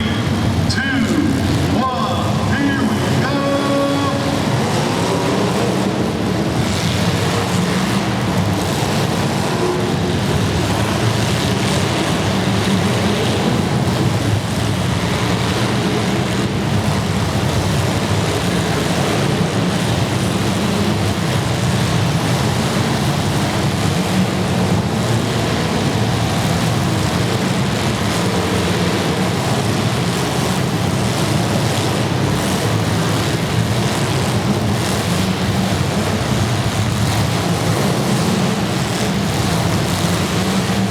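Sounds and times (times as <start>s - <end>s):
car engines rumbling: 0.0s - 40.9s.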